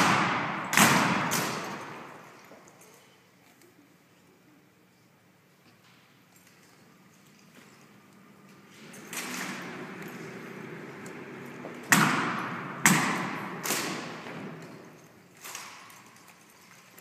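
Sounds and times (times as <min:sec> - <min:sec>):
sharp impacts ringing in a hall: 0:00.0 - 0:03.4, 0:05.9 - 0:17.0.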